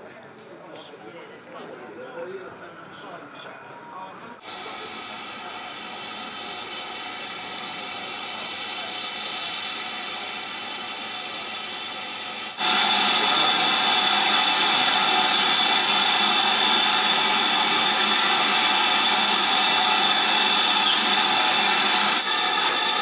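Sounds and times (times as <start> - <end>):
steam locomotive hissing: 4.4 - 23.0
train coaches rolling by: 4.4 - 23.0.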